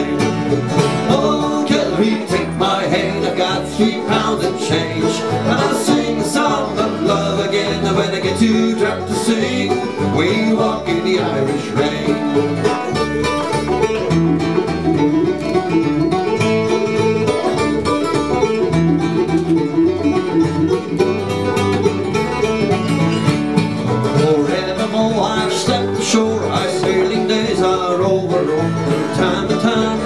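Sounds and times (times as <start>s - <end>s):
banjo picking: 0.0s - 30.0s
guitar accompaniment: 0.0s - 30.0s.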